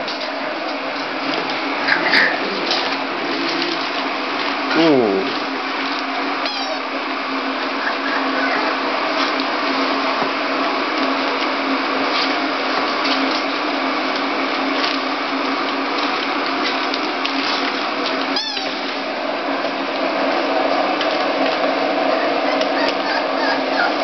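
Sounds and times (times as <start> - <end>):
mechanical hum and hiss: 0.0 - 24.0.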